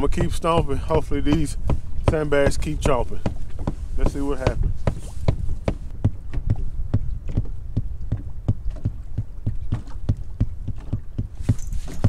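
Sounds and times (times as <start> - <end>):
foot stomping on boat floor: 0.0 - 12.0.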